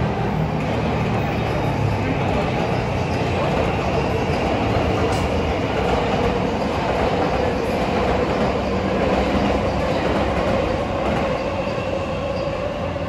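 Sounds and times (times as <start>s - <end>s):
train hum: 0.0s - 13.0s
train wheels rumbling on rail: 0.0s - 13.0s.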